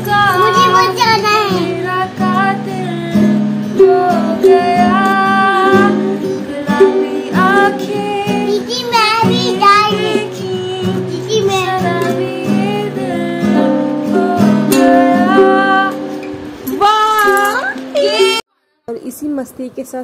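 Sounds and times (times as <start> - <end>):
acoustic guitar strumming: 0.0 - 18.4
girl singing: 0.0 - 18.4.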